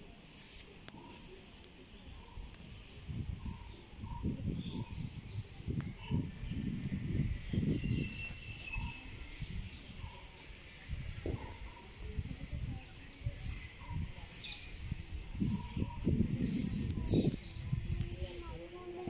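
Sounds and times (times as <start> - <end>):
birds chirping: 0.0 - 19.0
steady high hiss: 0.0 - 19.0
wind rumbling on microphone: 2.0 - 19.0.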